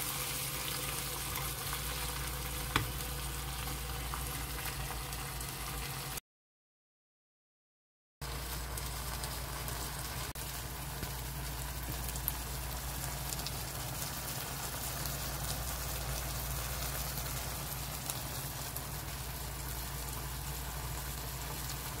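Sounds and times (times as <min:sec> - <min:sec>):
food sizzling in a frying pan: 0:00.0 - 0:06.2, 0:08.2 - 0:22.0.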